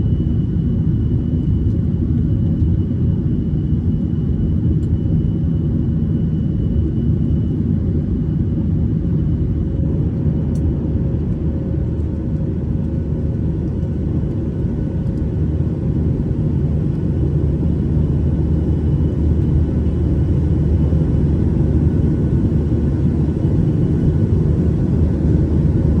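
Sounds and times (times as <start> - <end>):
aircraft engine and airflow rumble: 0.0 - 26.0.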